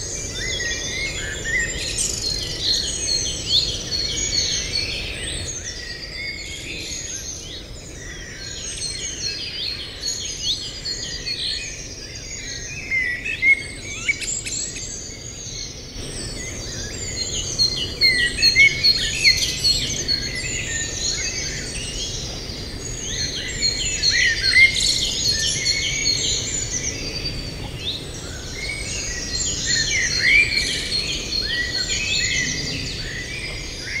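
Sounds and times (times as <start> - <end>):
chorus of songbirds singing: 0.0 - 34.0.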